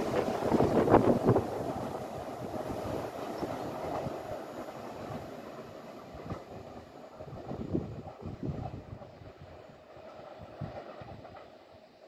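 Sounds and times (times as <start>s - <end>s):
train wheels clacking on rails: 0.0s - 12.0s.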